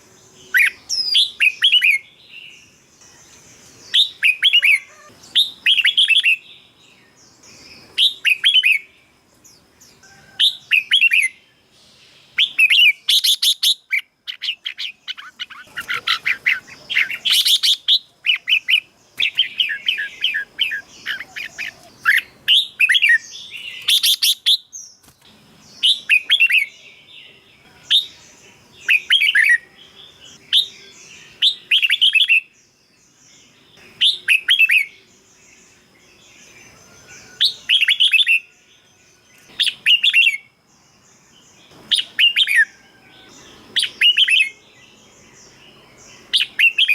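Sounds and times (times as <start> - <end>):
bird singing warbling phrases: 0.0 - 46.9.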